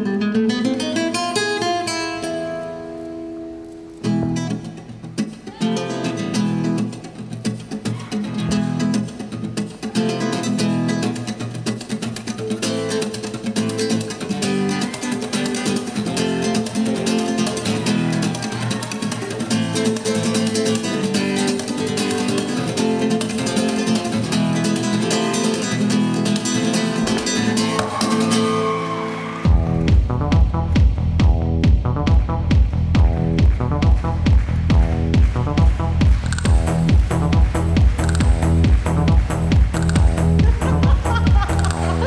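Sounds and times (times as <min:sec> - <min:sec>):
flamenco acoustic guitar strumming: 0:00.0 - 0:42.0.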